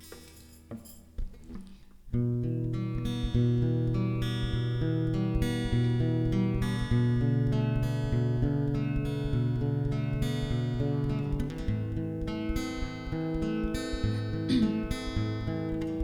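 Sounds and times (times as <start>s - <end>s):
acoustic guitar chords: 2.2s - 16.0s.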